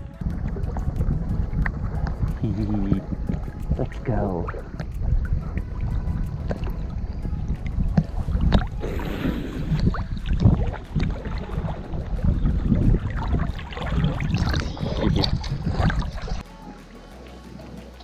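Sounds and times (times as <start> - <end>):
low rumble of water on camera: 0.0 - 16.4
water sloshing and splashing: 0.0 - 16.5.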